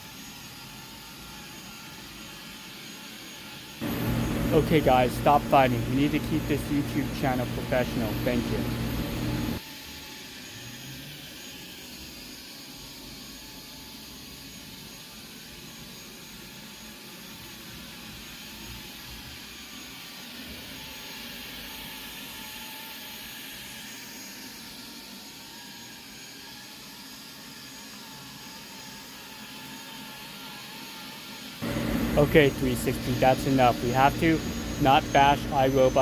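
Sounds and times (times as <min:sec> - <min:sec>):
robot vacuum cleaners whirring: 0:00.0 - 0:36.0.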